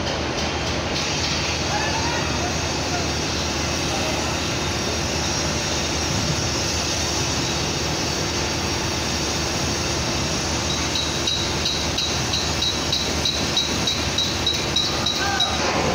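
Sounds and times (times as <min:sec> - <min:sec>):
machinery rumble and hum: 0:00.0 - 0:15.9.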